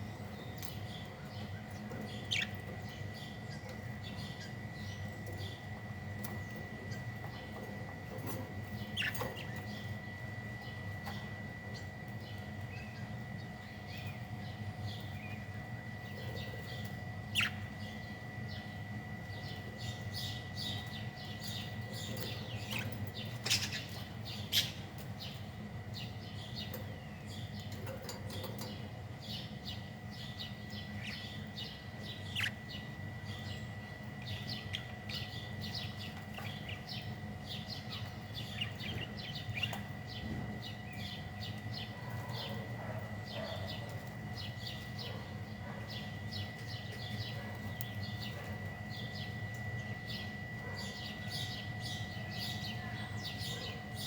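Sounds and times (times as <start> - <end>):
electrical hum: 0.0 - 54.0
small birds chirping: 0.0 - 54.0.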